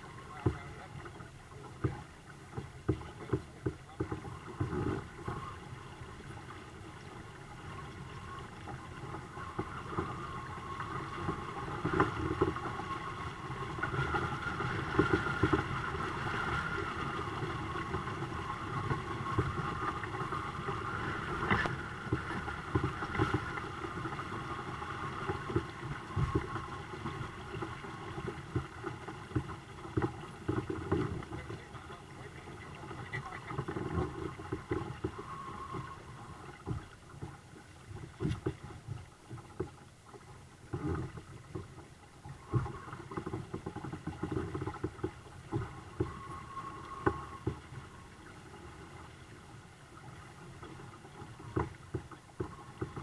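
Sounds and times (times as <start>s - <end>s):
water lapping against hulls: 0.0s - 53.0s.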